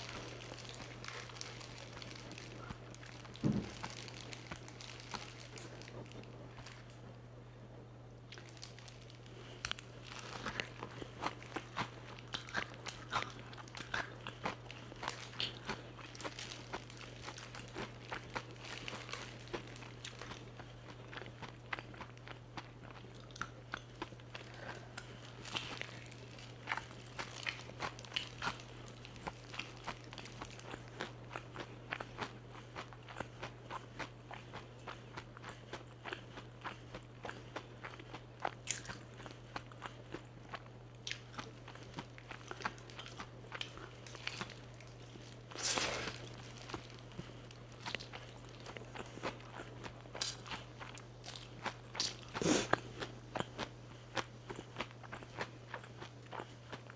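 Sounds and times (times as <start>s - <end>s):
crunching fried chicken: 0.0s - 7.2s, 8.2s - 56.9s
steady low hum: 0.0s - 56.9s.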